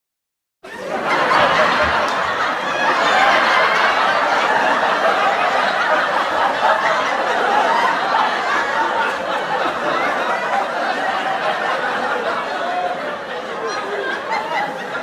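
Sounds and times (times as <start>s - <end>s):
studio audience laughing: 0.7s - 15.0s.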